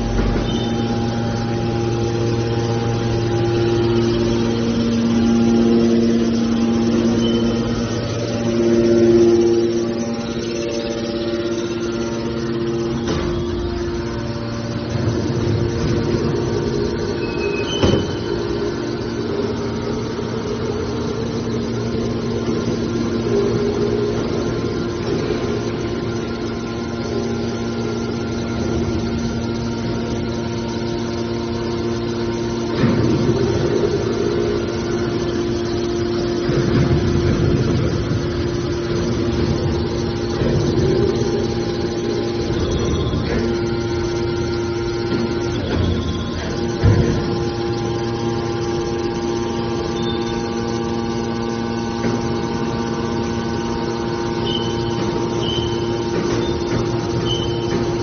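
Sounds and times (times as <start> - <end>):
hydraulic pump motor humming: 0.0 - 58.0.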